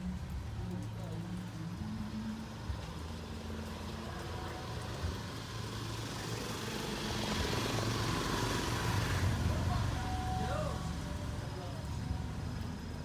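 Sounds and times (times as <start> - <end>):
street traffic: 0.0 - 13.0
vehicle engine humming: 0.0 - 13.0.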